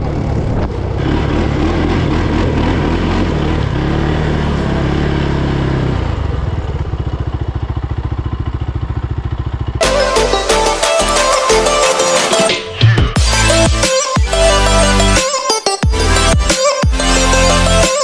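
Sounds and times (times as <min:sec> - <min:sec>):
quad engine running: 0:00.0 - 0:12.5, 0:15.8 - 0:18.0.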